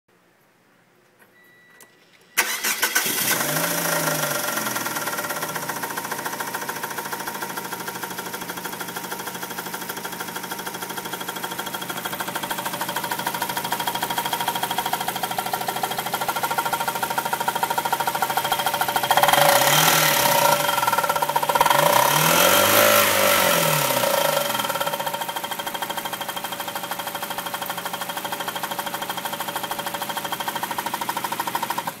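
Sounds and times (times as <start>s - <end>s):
car engine idling: 2.4s - 32.0s
rapid engine knocking: 4.3s - 32.0s.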